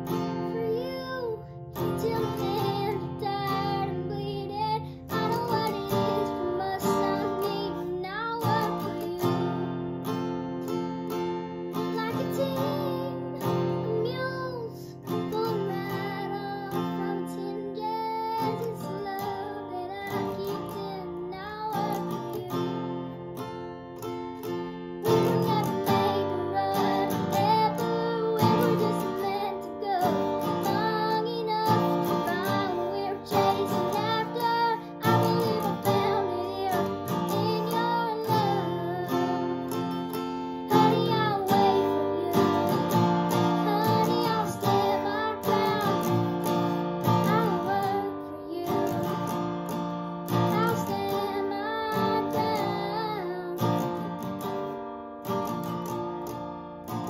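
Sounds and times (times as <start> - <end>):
girl singing slow song: 0.0 - 57.0
strummed acoustic guitar: 0.0 - 57.0.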